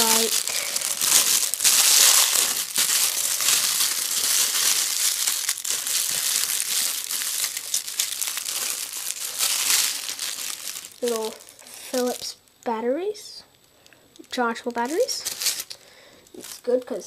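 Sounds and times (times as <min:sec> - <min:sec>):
plastic packaging crinkling: 0:00.0 - 0:12.8, 0:14.2 - 0:17.0.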